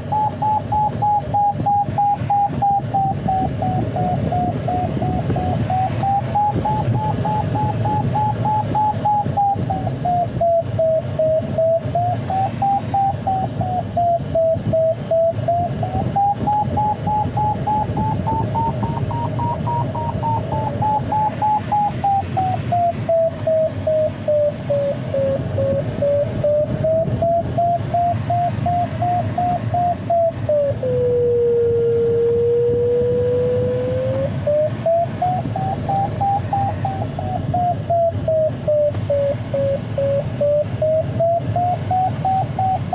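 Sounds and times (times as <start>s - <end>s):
airflow rushing over cockpit: 0.0s - 42.9s
low unbroken variometer tone: 0.0s - 42.9s
variometer beeping: 0.0s - 42.9s.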